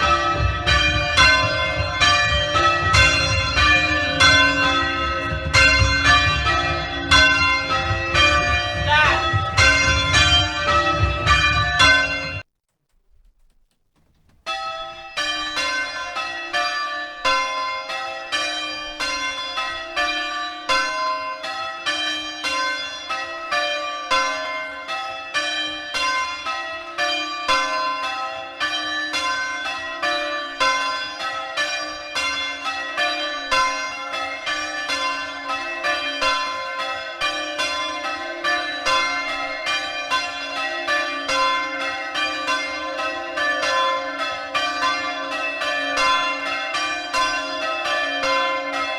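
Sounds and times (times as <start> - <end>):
church bells ringing: 0.0 - 12.5, 14.2 - 48.9.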